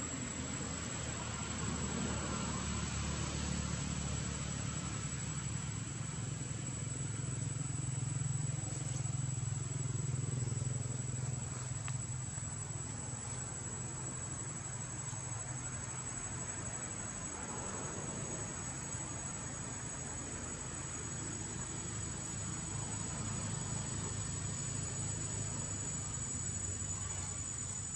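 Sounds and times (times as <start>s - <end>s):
constant hiss: 0.0s - 27.9s
vehicle engine rumble: 0.0s - 27.9s.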